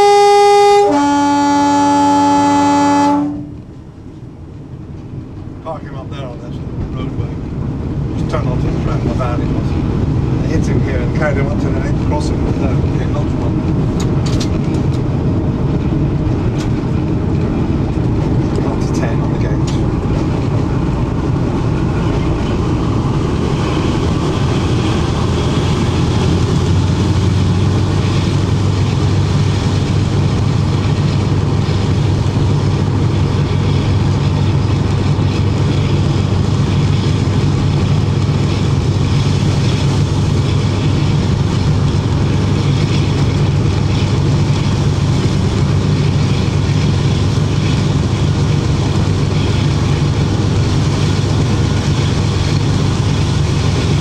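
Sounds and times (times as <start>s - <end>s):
diesel engines droning: 0.0s - 54.0s
train running on track: 0.0s - 54.0s.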